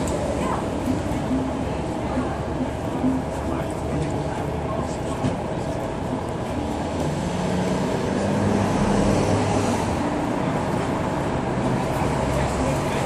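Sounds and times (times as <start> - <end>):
passing vehicle engine hum: 0.0 - 13.0
traffic din: 0.0 - 13.0.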